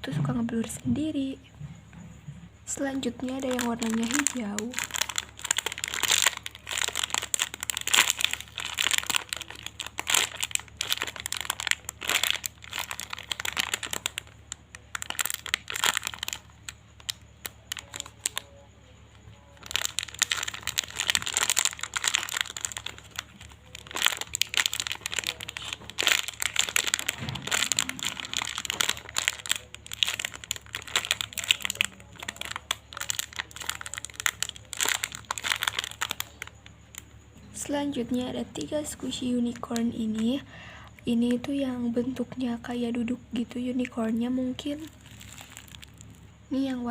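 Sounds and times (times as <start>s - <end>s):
plastic crinkling: 2.7s - 40.5s, 43.4s - 46.6s.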